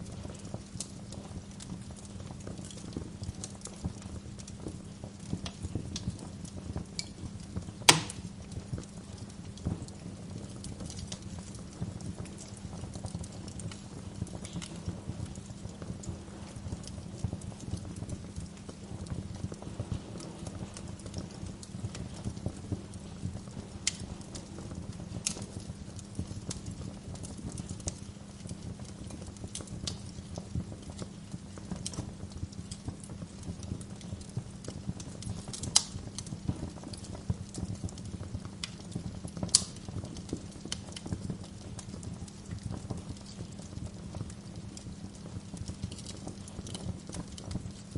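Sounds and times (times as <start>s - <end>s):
fire crackling: 0.0s - 47.9s
loud fire pops: 0.0s - 47.9s.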